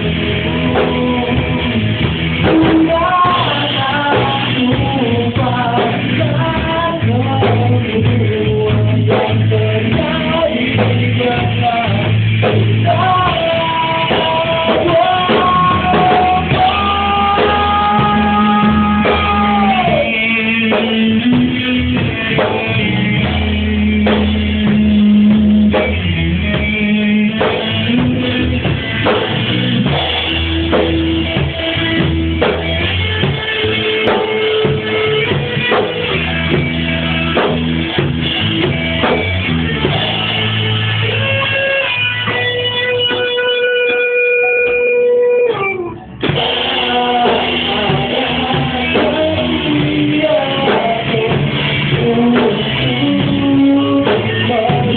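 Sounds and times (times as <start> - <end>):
lead guitar bending notes: 0.0 - 54.9
rock band playing: 0.0 - 54.9.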